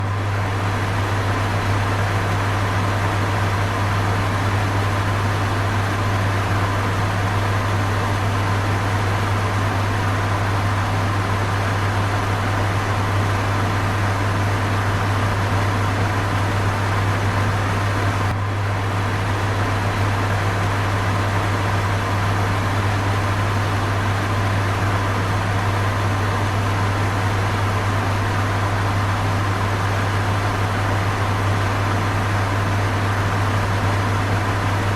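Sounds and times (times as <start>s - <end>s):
electric fan running: 0.0s - 34.9s.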